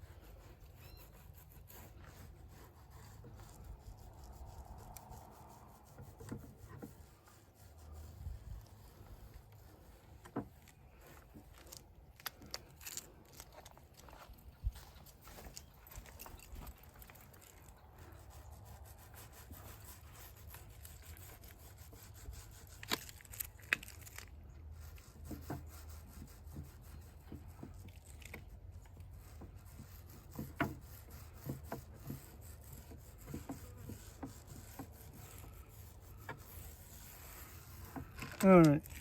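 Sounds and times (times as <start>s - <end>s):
faint rubbing: 0.0s - 39.0s.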